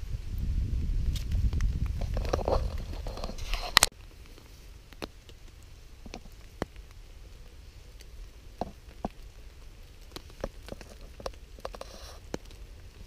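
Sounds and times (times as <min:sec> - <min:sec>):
raindrops tapping on a tarp: 0:01.0 - 0:13.0.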